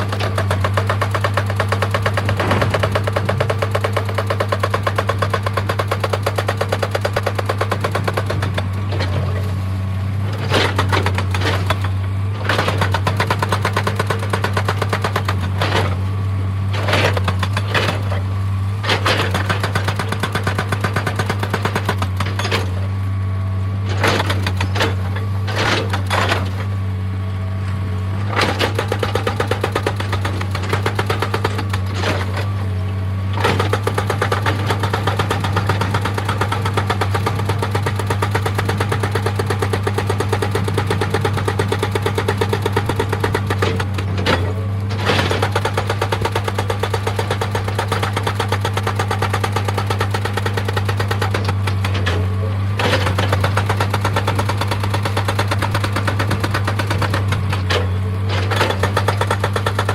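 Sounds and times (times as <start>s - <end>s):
hydraulic rock breaker hammering: 0.0s - 9.5s, 10.3s - 23.0s, 23.8s - 26.8s, 28.1s - 59.9s
diesel engine hum: 0.0s - 59.9s.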